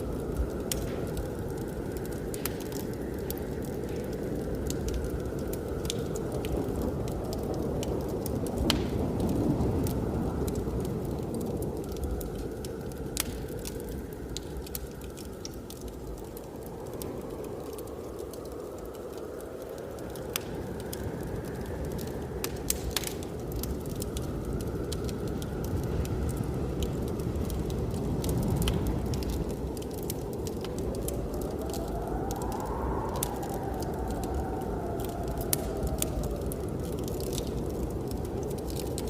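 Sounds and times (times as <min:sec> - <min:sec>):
blizzard wind rushing: 0:00.0 - 0:39.0
wood fire crackling and popping: 0:00.0 - 0:39.0.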